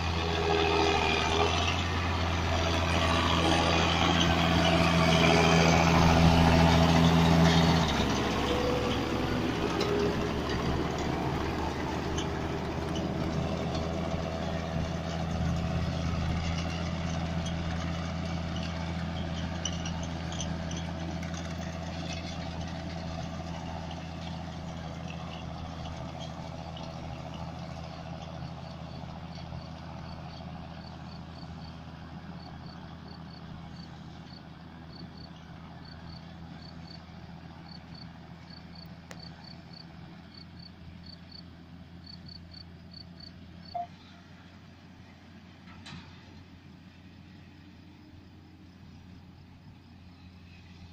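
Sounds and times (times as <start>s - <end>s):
round baler working: 0.0s - 50.9s
tractor engine running: 0.0s - 50.9s.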